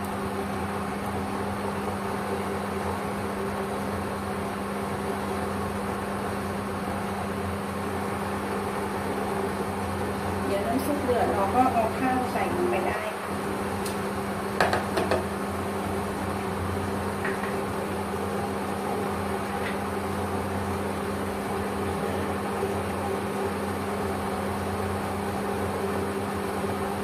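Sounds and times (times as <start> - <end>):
induction cooker hum and fan: 0.0 - 27.0.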